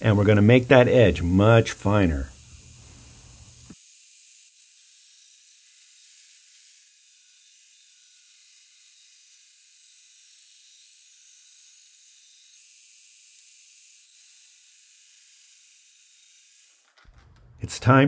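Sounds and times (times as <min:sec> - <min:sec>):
belt grinder hissing on blade: 0:00.0 - 0:17.0.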